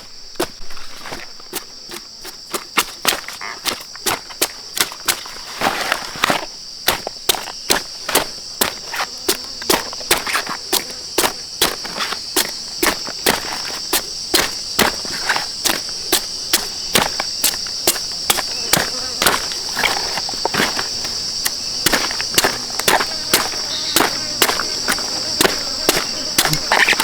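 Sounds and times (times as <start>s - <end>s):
insects droning: 0.0s - 27.0s
tool chopping into soil: 0.4s - 27.0s.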